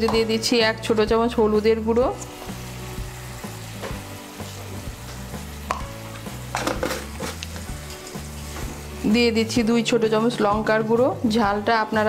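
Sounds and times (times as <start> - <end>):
background music bass line: 0.0 - 12.0
paste sizzling in hot oil: 0.4 - 12.0.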